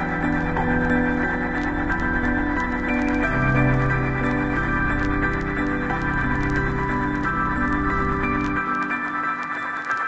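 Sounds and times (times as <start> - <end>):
background music with sustained notes: 0.0 - 10.0.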